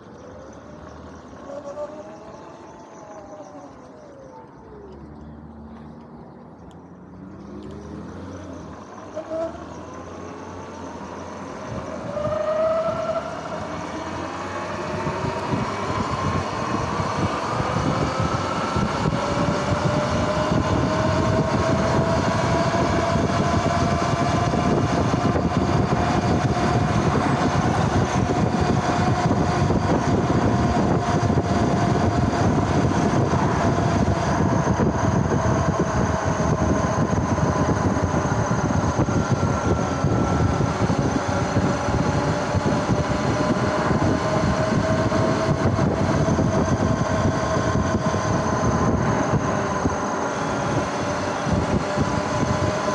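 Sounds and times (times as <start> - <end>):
electric motorbike drivetrain whining: 0.0 - 52.9
wind noise: 9.0 - 52.9.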